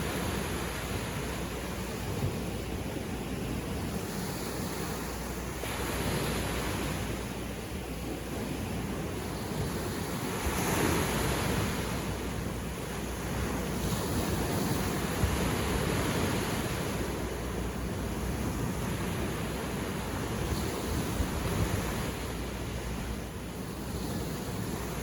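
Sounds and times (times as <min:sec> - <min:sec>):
sea waves breaking: 0:00.0 - 0:25.0.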